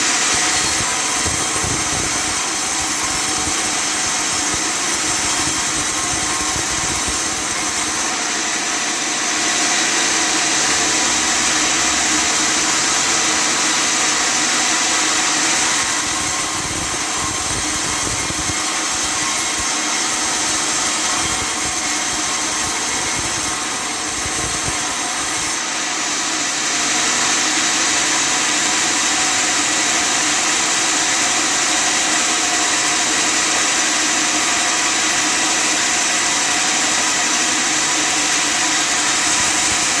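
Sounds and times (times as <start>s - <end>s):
sawmill droning and hissing: 0.0s - 40.0s.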